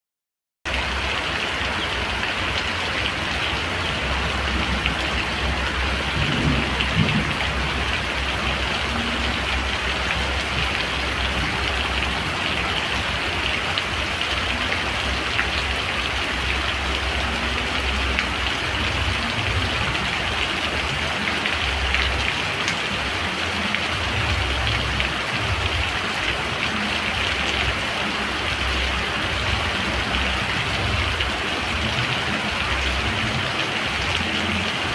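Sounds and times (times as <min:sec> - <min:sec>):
steady rain falling: 0:00.7 - 0:34.9.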